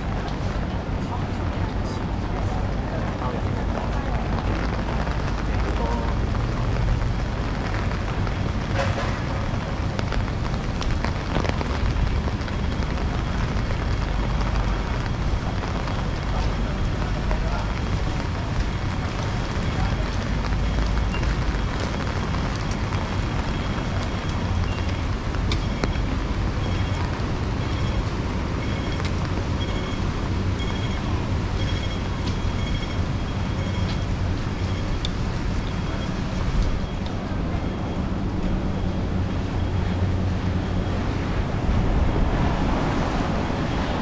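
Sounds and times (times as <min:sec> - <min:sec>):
city traffic: 0:00.0 - 0:44.0
strong wind buffeting microphone: 0:00.0 - 0:44.0.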